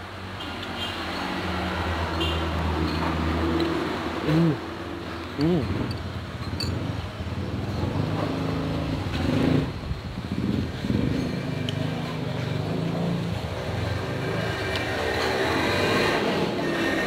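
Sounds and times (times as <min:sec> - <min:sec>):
traffic engines droning: 0:00.0 - 0:17.0.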